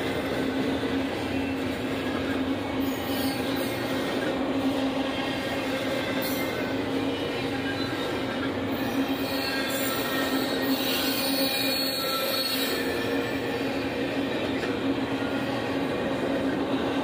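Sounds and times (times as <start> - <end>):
wheels squealing on rail: 0.0 - 16.6
train wheels on rail: 0.0 - 17.0.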